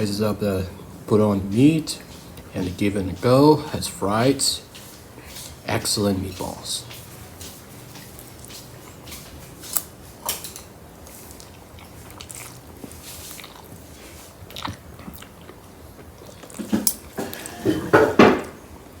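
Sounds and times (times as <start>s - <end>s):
person chewing food: 1.5s - 17.9s.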